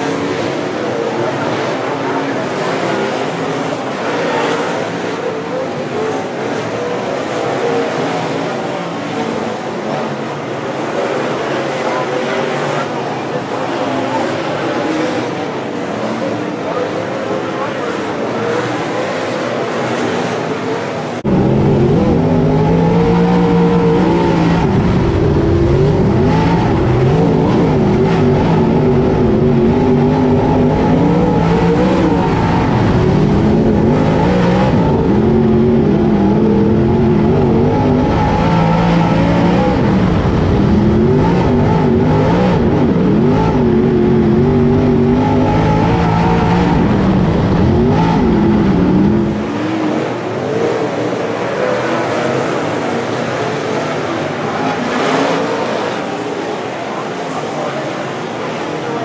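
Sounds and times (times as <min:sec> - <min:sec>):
race car engine revving: 0:00.0 - 0:59.0
rush of noise: 0:00.0 - 0:59.0.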